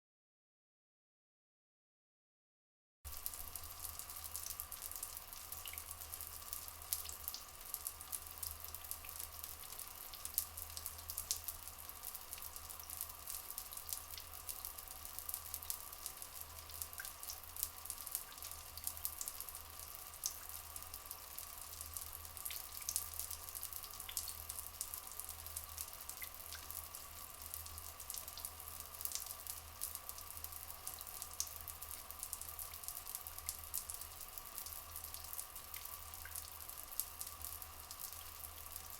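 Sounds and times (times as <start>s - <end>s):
dripping and trickling water: 3.1s - 38.9s.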